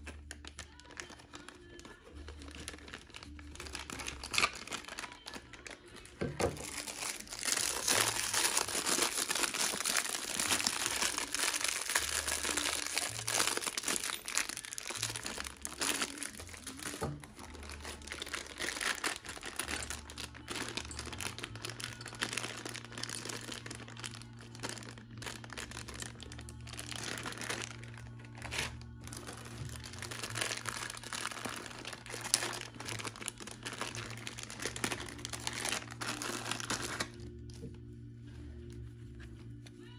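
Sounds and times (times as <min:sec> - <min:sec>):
plastic bags crinkling: 0:00.0 - 0:37.6
background music with bass line: 0:06.0 - 0:39.9.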